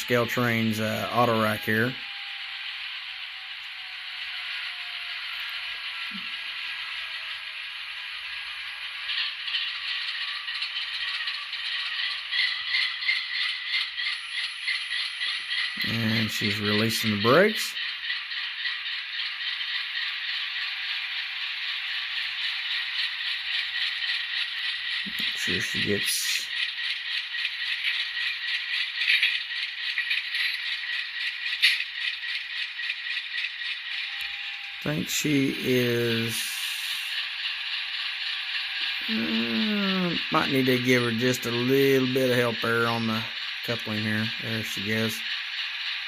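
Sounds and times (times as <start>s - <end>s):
pulsing hissing air rattle: 0.0s - 46.0s
tinny model locomotive engine sound: 0.0s - 46.0s.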